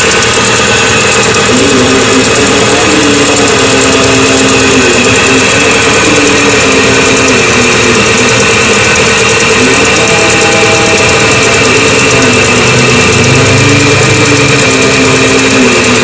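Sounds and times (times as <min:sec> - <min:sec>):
car engine idling: 0:00.0 - 0:16.0
engine ticking: 0:00.0 - 0:16.0.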